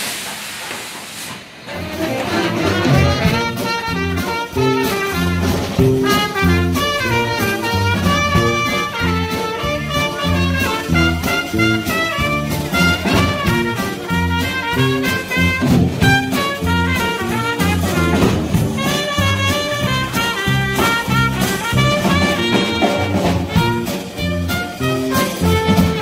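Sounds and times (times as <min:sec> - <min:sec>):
big band playing swing: 0:00.0 - 0:26.0.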